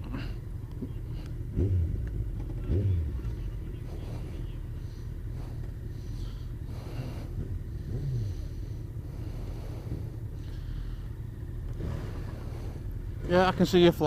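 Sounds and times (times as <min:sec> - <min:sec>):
motorcycle riding: 0:00.0 - 0:14.0.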